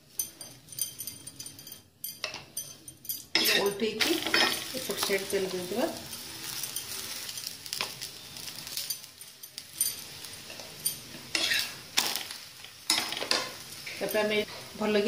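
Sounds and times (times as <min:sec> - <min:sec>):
spoon clinking and scraping pan: 0:00.0 - 0:14.4
flatbread sizzling in oil: 0:00.0 - 0:15.0.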